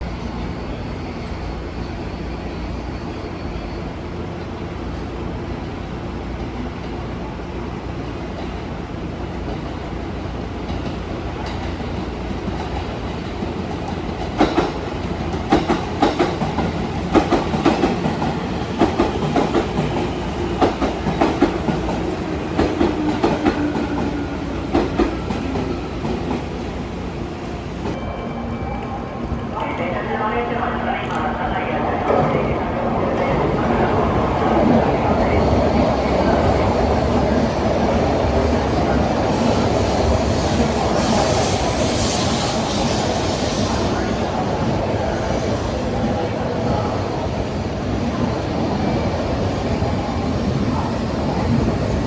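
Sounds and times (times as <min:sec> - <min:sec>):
train rumble: 0:00.0 - 0:52.0.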